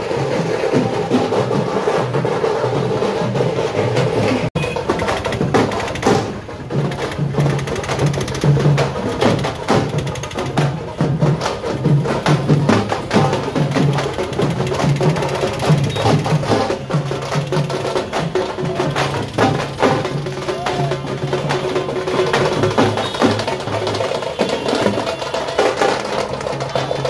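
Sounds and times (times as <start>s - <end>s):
sharp clicking percussion strokes: 0.0s - 27.0s.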